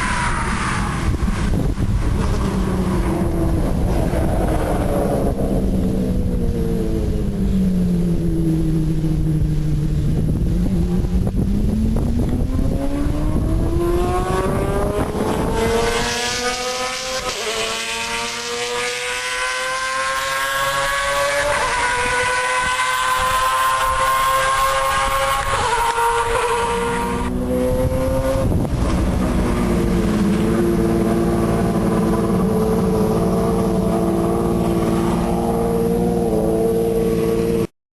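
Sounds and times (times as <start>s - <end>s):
race car engine accelerating: 0.0s - 37.7s.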